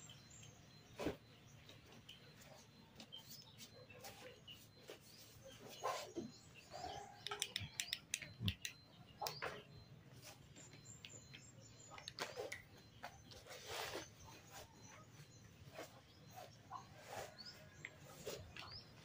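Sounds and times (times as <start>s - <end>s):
faint high chirps: 0.0s - 19.0s.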